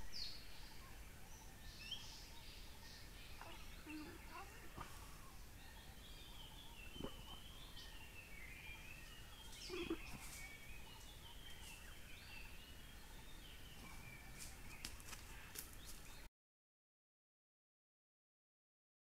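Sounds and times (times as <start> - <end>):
forest birds calling: 0.0 - 16.3.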